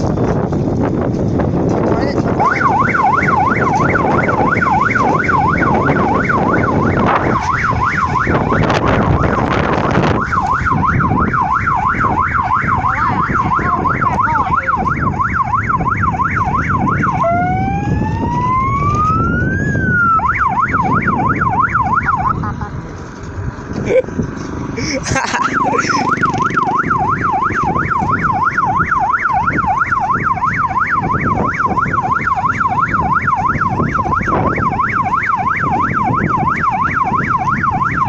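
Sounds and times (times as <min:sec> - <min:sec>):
wind and road rumble: 0:00.0 - 0:38.0
police-style siren warbling: 0:02.2 - 0:24.2, 0:24.8 - 0:38.0.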